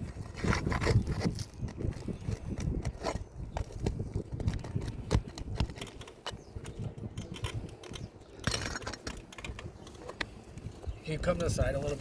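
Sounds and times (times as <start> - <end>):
clicks and taps on shingle roof: 0.4 - 10.9.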